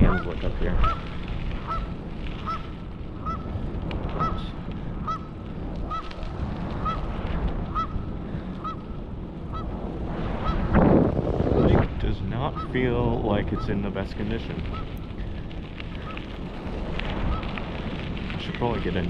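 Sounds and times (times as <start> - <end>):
low wind: 0.0 - 19.0
road rumble: 0.0 - 19.0.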